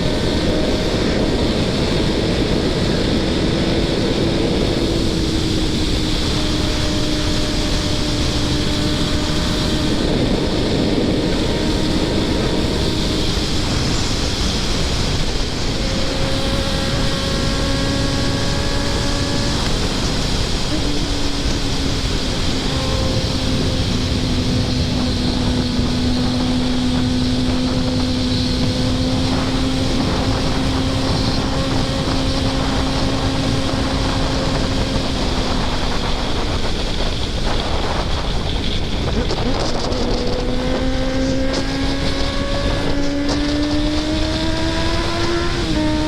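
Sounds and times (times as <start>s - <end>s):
motorcycle engine running: 0.0s - 46.0s
wind noise on microphone: 0.0s - 46.0s.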